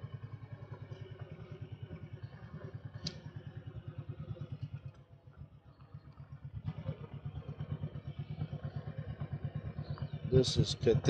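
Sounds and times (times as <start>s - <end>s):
motorcycle exhaust pulsing: 0.0s - 11.0s.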